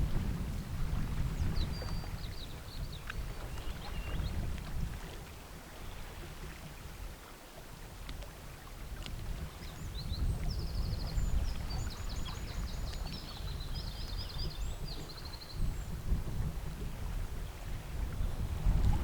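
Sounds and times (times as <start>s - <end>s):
wind buffeting microphone: 0.0s - 7.2s, 7.8s - 19.0s.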